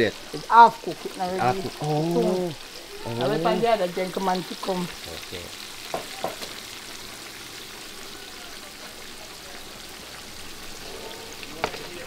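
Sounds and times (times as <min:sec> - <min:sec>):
food sizzling in pots: 0:00.0 - 0:12.0.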